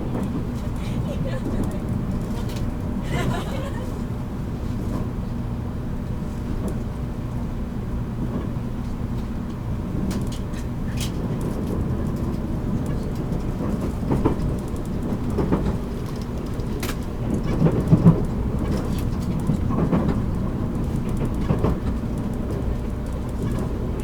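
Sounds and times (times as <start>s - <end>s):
train interior hum and rumble: 0.0s - 24.0s.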